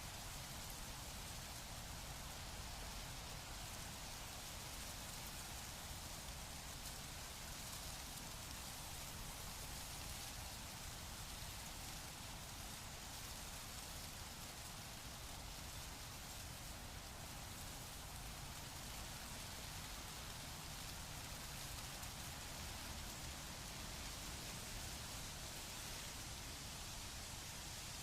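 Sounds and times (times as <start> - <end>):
wind rustling leaves: 0.0 - 28.0.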